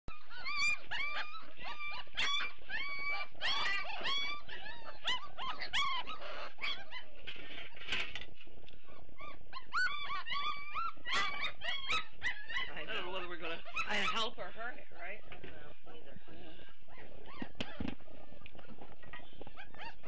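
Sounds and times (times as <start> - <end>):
puppies whining and crying: 0.1 - 20.0.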